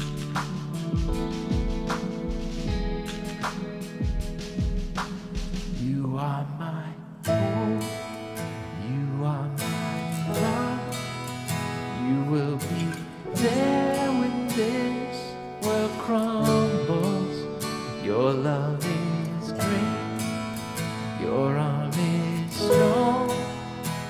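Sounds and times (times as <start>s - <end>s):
man singing: 0.0s - 1.2s, 5.7s - 24.0s
strummed acoustic guitar: 0.0s - 24.0s.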